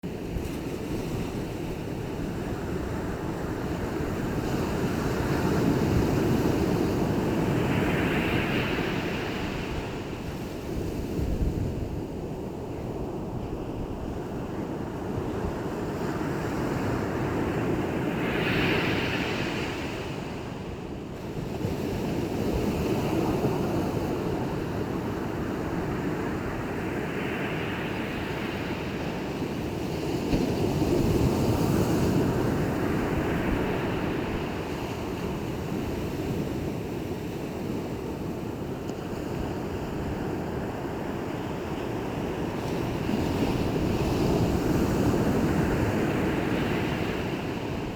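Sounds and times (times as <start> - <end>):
sea waves breaking on shore: 0.1 - 47.9.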